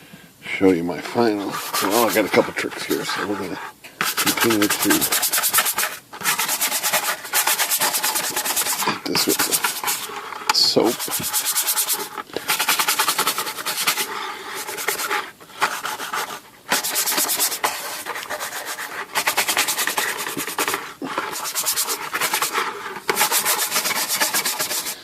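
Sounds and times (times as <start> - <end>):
stiff brush scrubbing: 0.5 - 25.0.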